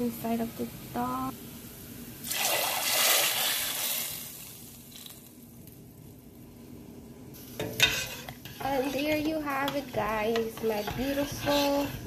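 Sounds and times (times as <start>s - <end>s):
hot oil hissing in dal: 0.3s - 5.6s, 7.3s - 12.0s.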